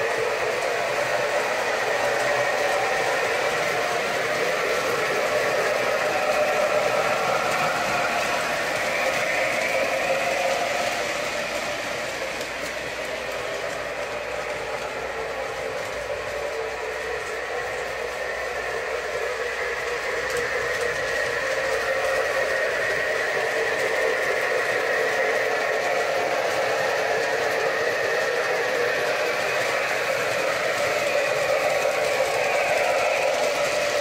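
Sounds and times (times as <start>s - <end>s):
model trains rolling whir: 0.0s - 34.0s.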